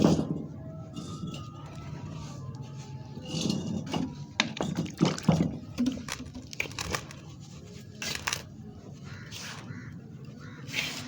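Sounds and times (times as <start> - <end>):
dry cement mix crunching: 0.0 - 11.0.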